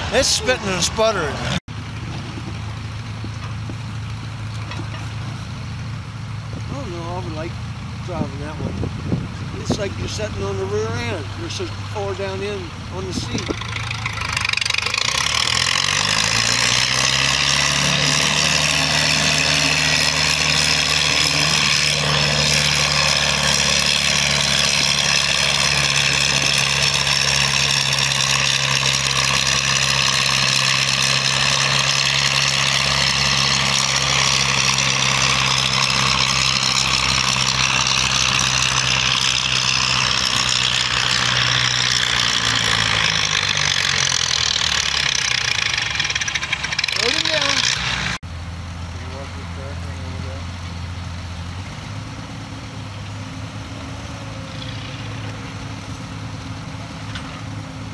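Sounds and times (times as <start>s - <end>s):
tractor engine under heavy load: 0.0s - 57.9s.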